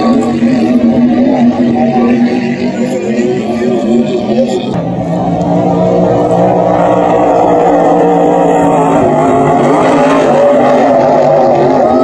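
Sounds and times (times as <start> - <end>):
powerboat engine at high speed: 0.0 - 12.0.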